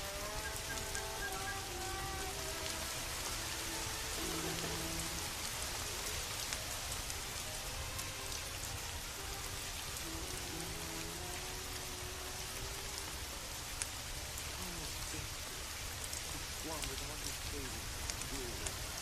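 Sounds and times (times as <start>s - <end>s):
soft held musical tones: 0.0s - 19.0s
steady rain hissing: 0.0s - 19.0s.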